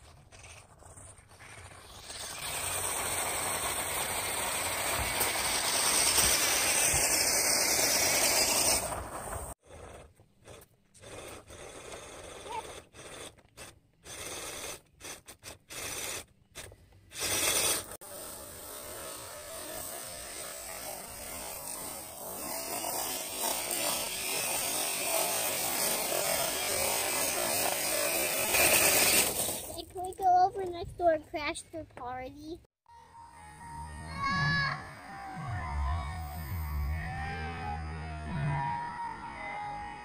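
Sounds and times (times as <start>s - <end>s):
rc truck noisy rush: 0.0s - 31.4s, 33.4s - 40.0s.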